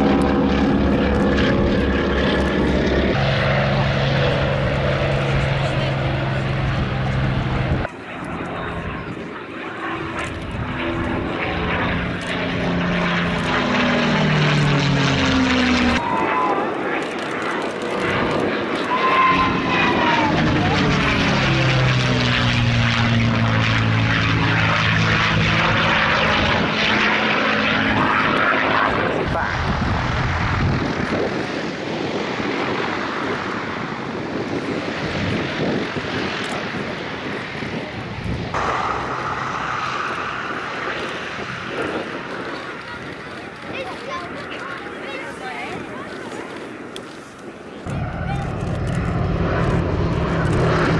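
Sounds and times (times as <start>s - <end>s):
propeller plane engine passing: 0.0s - 50.9s.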